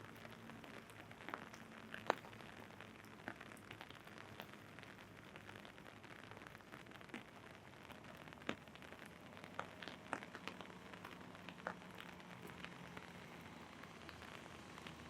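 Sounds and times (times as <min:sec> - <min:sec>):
rain on an umbrella: 0:00.0 - 0:15.0.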